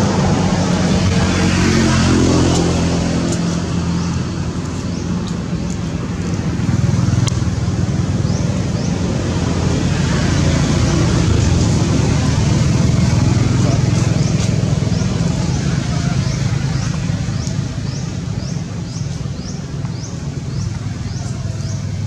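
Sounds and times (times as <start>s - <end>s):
motor engine humming: 0.0s - 22.0s.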